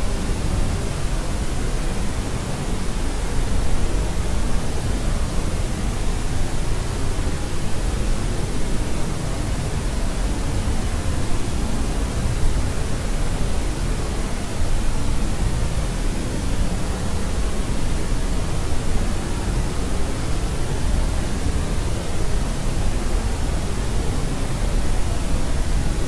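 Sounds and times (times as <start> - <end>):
low white noise hiss: 0.0 - 26.0.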